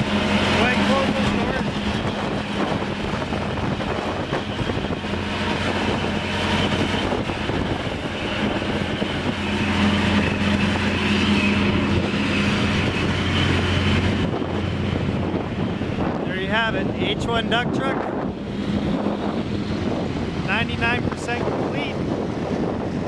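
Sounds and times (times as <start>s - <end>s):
diesel engine and vacuum fan hum: 0.0s - 23.0s.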